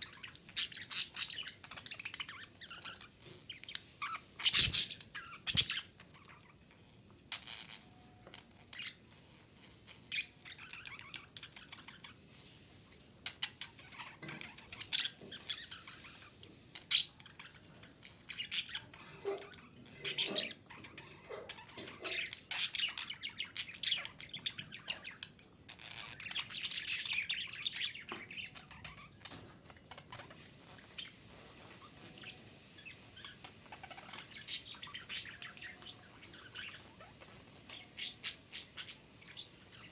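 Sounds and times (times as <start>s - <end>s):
budgerigar chirping and chattering: 0.0s - 6.6s, 13.3s - 31.2s, 31.9s - 39.9s.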